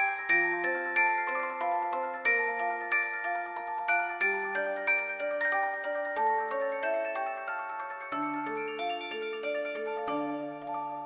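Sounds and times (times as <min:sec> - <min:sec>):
glockenspiel melody: 0:00.0 - 0:11.0.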